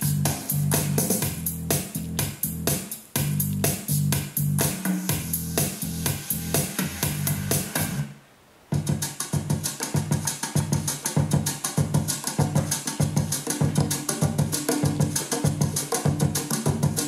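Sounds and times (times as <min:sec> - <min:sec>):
steady drum beat: 0:00.0 - 0:08.0, 0:08.7 - 0:17.0
music from speaker: 0:00.0 - 0:17.0.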